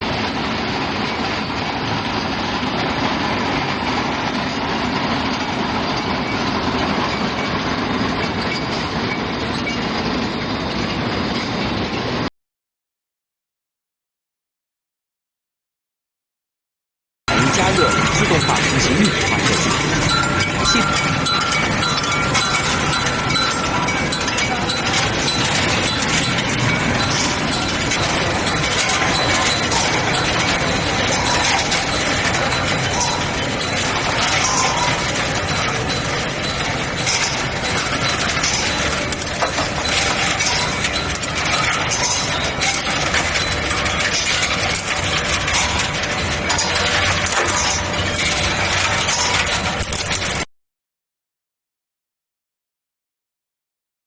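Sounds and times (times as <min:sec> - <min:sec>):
steady high whine: 0:00.0 - 0:12.2, 0:17.3 - 0:50.0
continuous machine noise: 0:00.0 - 0:12.3, 0:17.3 - 0:50.5.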